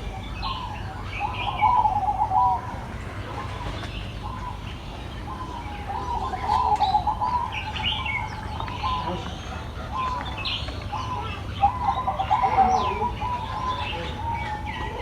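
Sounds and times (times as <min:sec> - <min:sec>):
pigeon cooing: 0:00.0 - 0:15.0
small birds chirping: 0:00.0 - 0:15.0.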